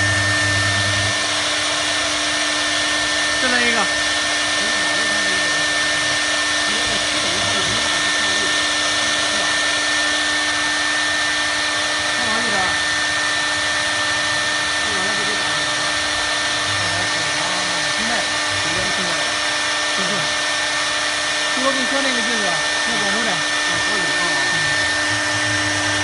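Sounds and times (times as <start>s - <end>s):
router motor whine: 0.0s - 26.0s.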